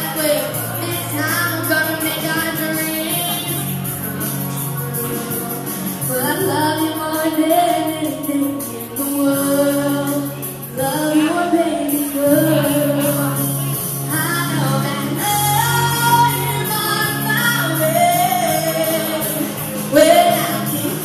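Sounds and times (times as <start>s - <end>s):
girl singing into microphone: 0.0s - 4.1s, 6.0s - 21.0s
instrumental accompaniment: 0.0s - 21.0s.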